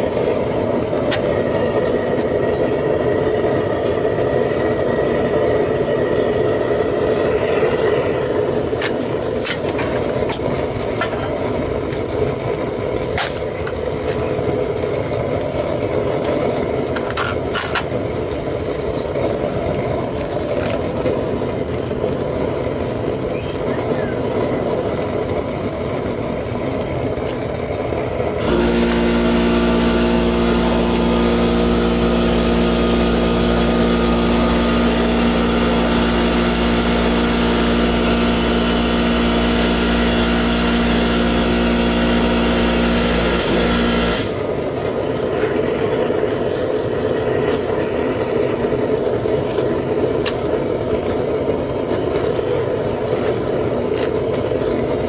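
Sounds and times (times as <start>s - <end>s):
mechanical hum with fixed tones: 0.0s - 55.0s
propane burner roaring: 0.0s - 55.0s.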